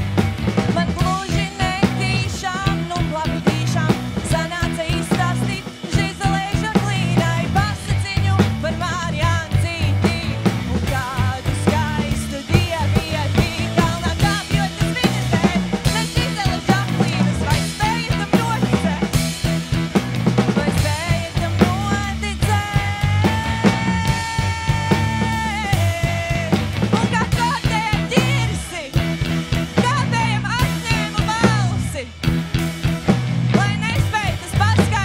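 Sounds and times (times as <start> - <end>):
drum kit: 0.0 - 35.0
rock band playing: 0.0 - 35.0.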